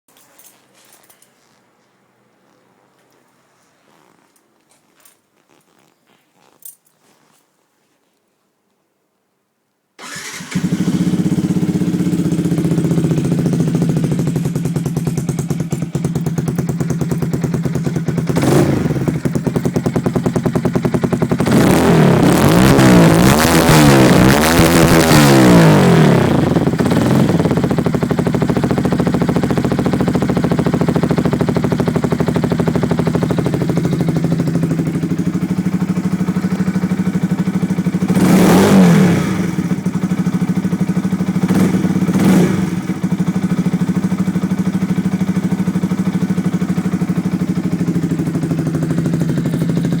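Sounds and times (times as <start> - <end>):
motorcycle engine idling and revving: 5.0 - 7.3, 10.0 - 50.0.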